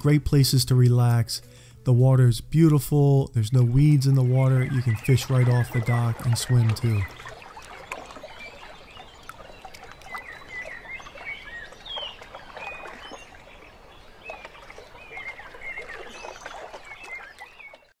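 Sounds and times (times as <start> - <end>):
birds chirping: 0.0 - 17.9
wind: 0.0 - 17.9
lake water: 0.0 - 18.0.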